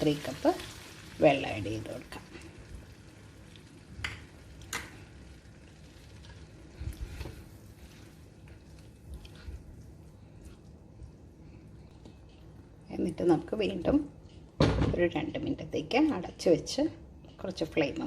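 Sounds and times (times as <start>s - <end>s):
gravy sizzling faintly in pan: 0.0s - 18.0s.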